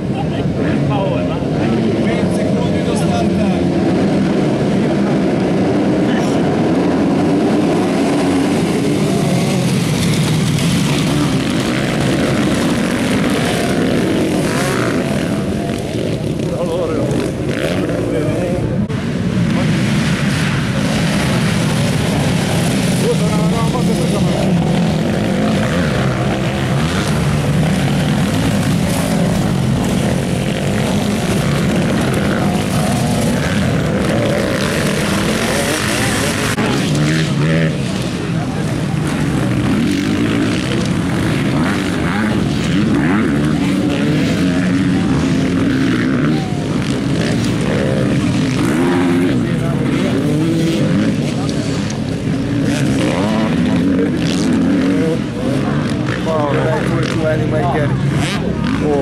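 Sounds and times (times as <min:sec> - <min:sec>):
motocross bikes revving and racing: 0:00.0 - 0:59.0.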